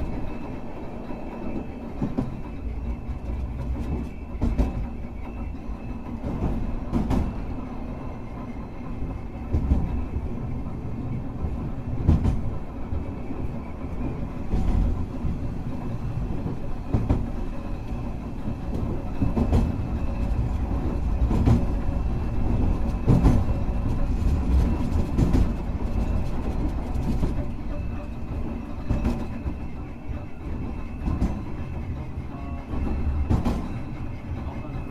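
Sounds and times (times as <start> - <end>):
tram rumble: 0.0 - 34.9.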